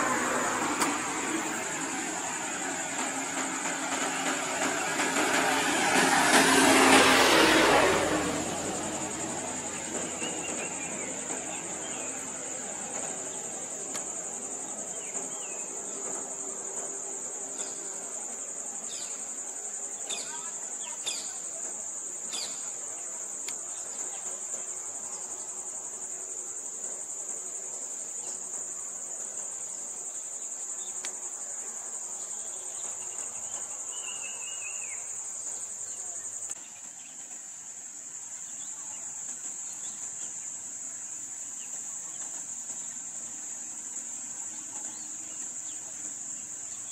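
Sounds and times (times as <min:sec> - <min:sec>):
insects chorus: 0:00.0 - 0:46.9.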